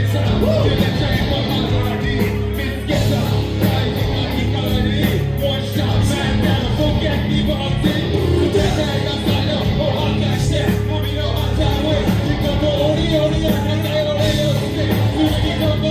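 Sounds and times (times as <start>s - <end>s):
bass guitar: 0.0s - 15.9s
drums: 0.0s - 15.9s
electric guitar: 0.0s - 15.9s
person singing into microphone: 0.0s - 15.9s.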